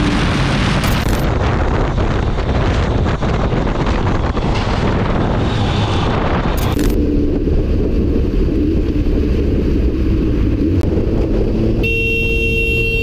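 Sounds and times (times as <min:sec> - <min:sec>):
engine and road noise rumble: 0:00.0 - 0:13.0
wind rush on microphone: 0:00.0 - 0:13.0.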